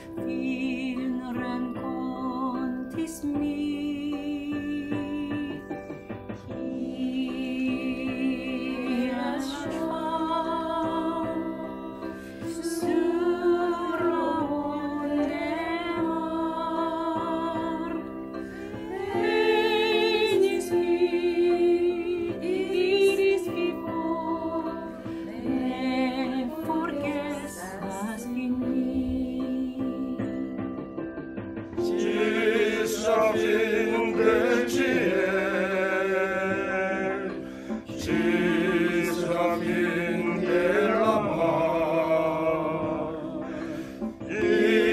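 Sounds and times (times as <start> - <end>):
women's choir singing: 6.6 - 30.6, 31.8 - 44.9.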